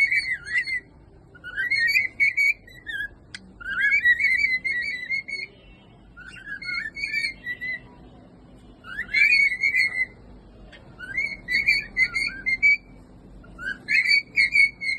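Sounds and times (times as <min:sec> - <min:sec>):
cockatiel whistling: 0:00.0 - 0:05.6, 0:06.2 - 0:07.8, 0:08.8 - 0:10.2, 0:11.0 - 0:14.9.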